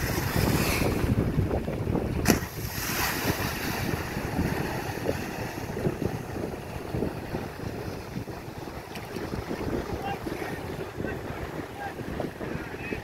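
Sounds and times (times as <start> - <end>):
wind buffeting microphone: 0.0 - 13.0
small waves washing: 2.2 - 13.0.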